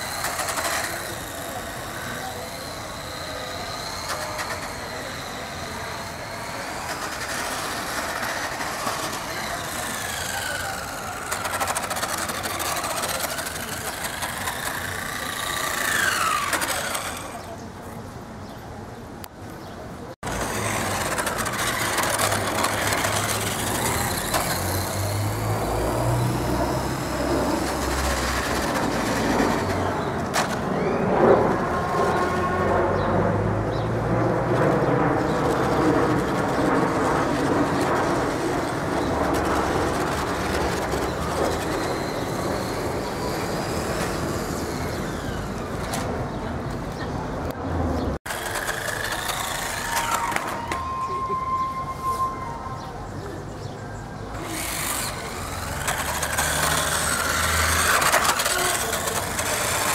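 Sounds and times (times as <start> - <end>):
electric motor whine: 0.0 - 17.6, 20.2 - 33.5, 34.5 - 46.0, 48.3 - 50.8, 54.3 - 59.9.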